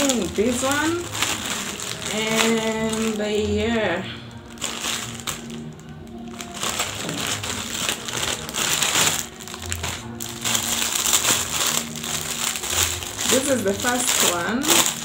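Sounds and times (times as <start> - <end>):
background music: 0.0 - 15.0
plastic packaging crinkling: 0.0 - 15.0.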